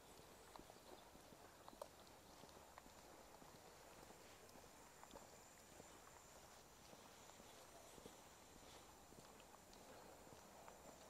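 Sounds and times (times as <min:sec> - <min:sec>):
footsteps on wet street: 0:00.0 - 0:11.0.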